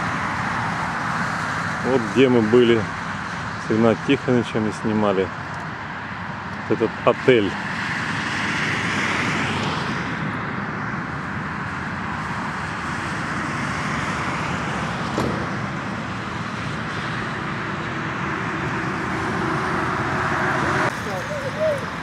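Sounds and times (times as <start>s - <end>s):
motorway traffic noise: 0.0s - 22.0s.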